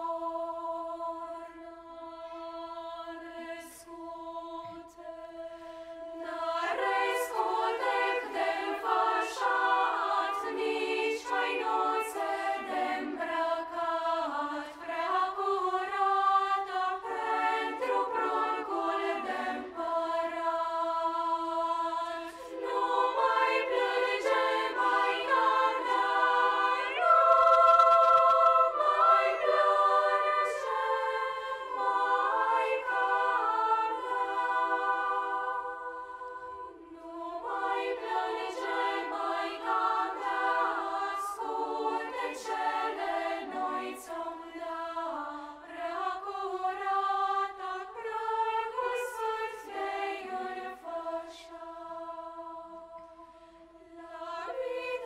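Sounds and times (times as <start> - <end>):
children's choir singing: 0.0 - 55.0.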